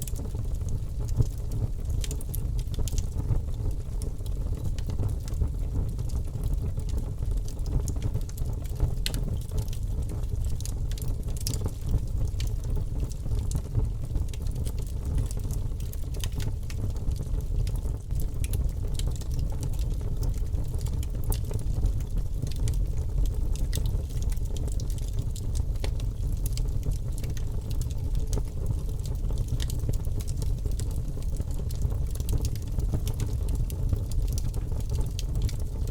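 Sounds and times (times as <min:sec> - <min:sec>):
fire flames rumbling: 0:00.1 - 0:35.9.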